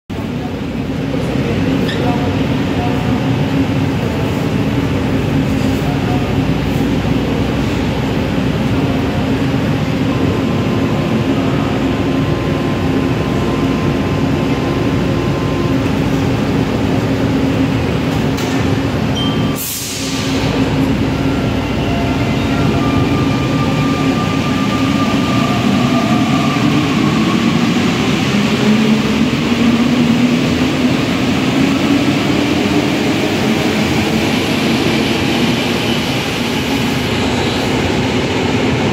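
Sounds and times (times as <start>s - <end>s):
metro train humming and pulling away: 0.1s - 38.9s.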